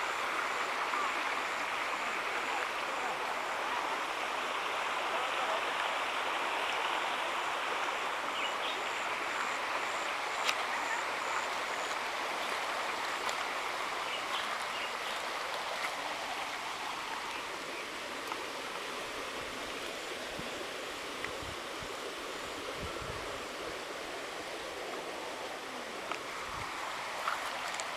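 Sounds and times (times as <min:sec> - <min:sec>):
stream running: 0:00.0 - 0:27.9.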